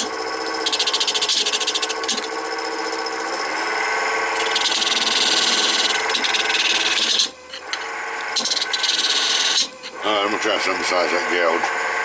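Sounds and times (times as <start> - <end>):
gouge scraping spinning wood: 0.0 - 11.5
wood lathe humming: 0.0 - 12.0.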